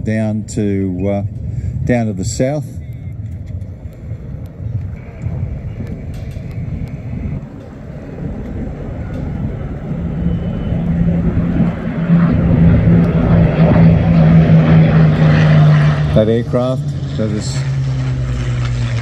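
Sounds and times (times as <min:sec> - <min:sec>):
propeller aircraft engines droning: 0:00.0 - 0:19.0.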